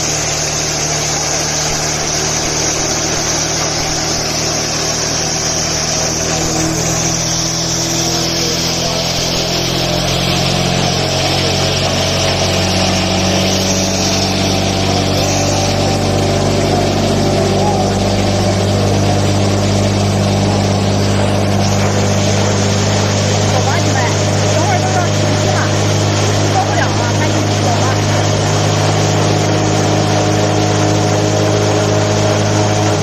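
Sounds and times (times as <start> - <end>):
grain crusher machine drone: 0.0 - 33.0.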